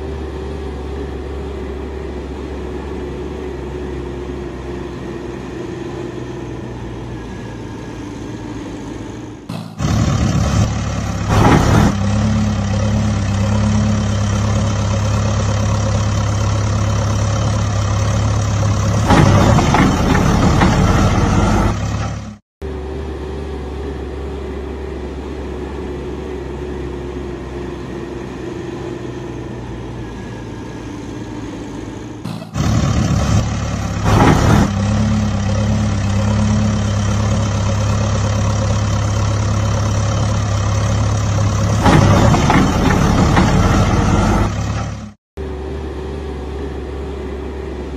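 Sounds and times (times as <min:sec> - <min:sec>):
truck engine: 0:00.0 - 0:47.9.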